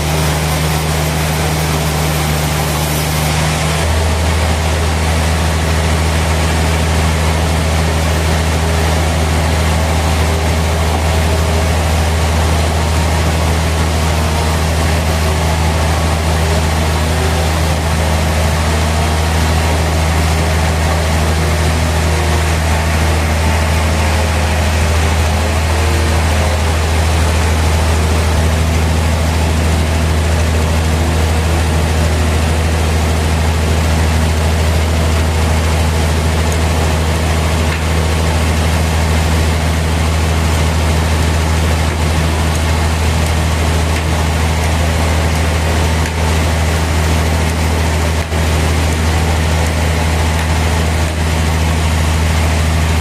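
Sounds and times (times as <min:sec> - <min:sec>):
sawmill machinery humming: 0:00.0 - 0:53.0.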